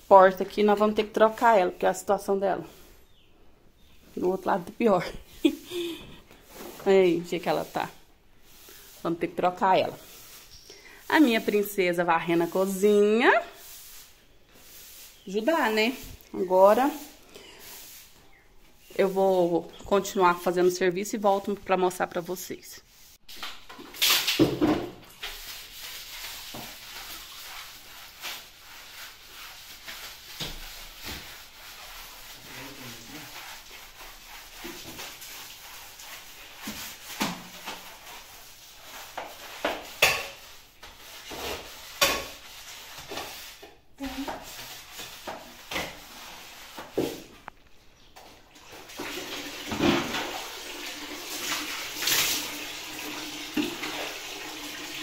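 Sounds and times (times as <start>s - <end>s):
broom scrubbing wet tiles: 0.0s - 3.1s, 4.0s - 47.5s, 48.1s - 55.0s.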